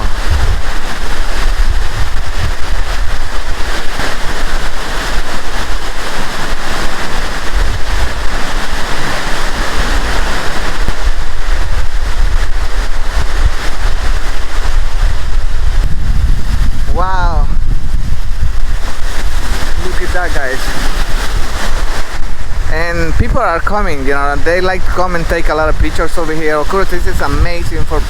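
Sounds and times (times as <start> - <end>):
waterfall rushing: 0.0 - 28.0
wind buffeting microphone: 0.0 - 28.0.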